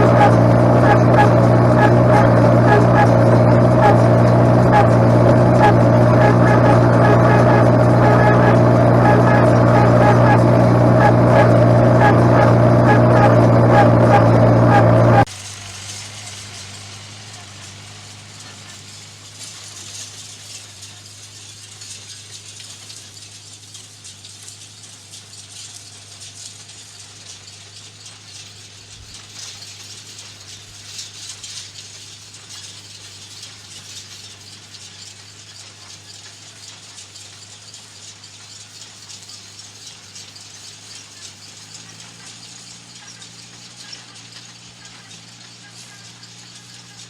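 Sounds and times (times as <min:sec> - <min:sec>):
continuous crackling rattle: 0:00.0 - 0:47.0
distant machinery engine hum: 0:00.0 - 0:47.0.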